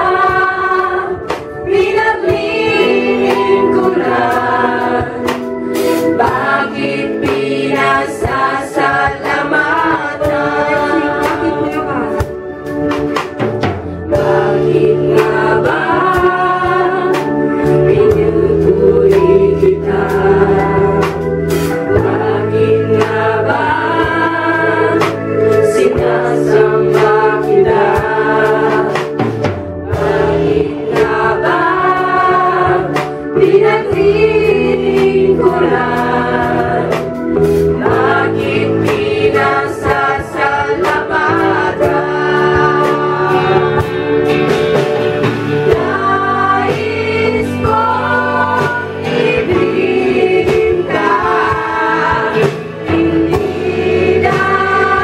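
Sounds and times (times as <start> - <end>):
women singing in unison: 0.0 - 12.2, 14.1 - 21.2, 21.8 - 29.2, 29.9 - 37.1, 37.8 - 44.0, 45.7 - 55.0
drums: 0.0 - 55.0
electric bass: 0.0 - 55.0
guitar: 0.0 - 55.0.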